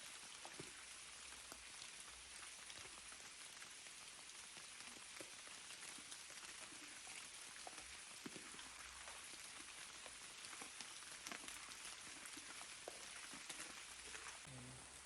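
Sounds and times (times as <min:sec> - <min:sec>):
faint rain falling: 0:00.0 - 0:15.0.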